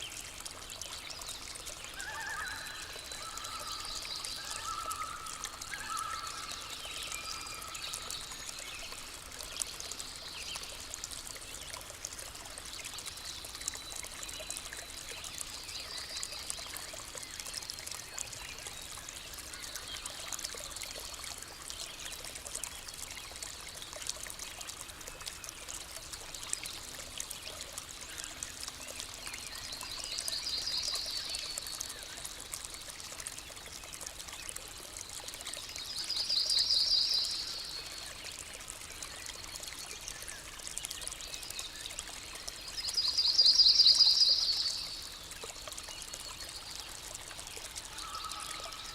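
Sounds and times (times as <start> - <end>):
stream water trickling: 0.0 - 48.9.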